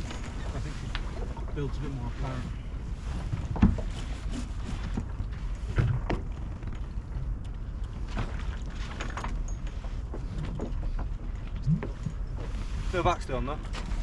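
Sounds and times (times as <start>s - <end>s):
water along hull: 0.0s - 14.0s.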